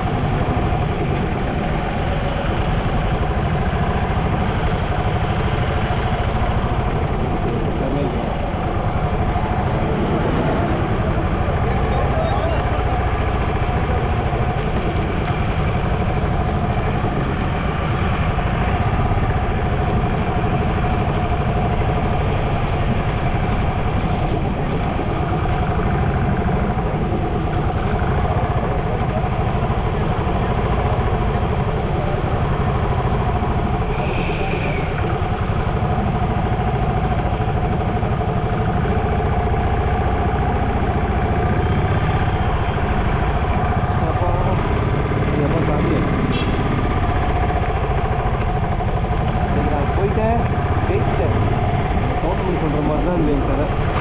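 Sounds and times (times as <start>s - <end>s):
constant rushing noise: 0.0s - 54.0s
diesel engine idling: 0.0s - 54.0s.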